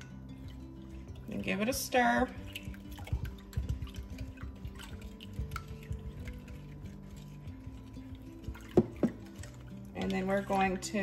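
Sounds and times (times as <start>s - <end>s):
soft background music: 0.0s - 11.0s
utensil stirring in glass bowl: 0.0s - 11.0s.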